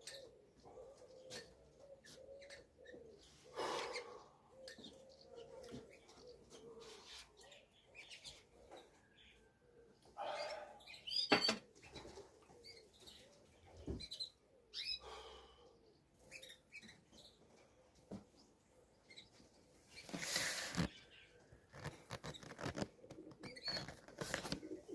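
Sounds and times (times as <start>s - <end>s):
pigeons chirping and calling: 0.0s - 24.9s.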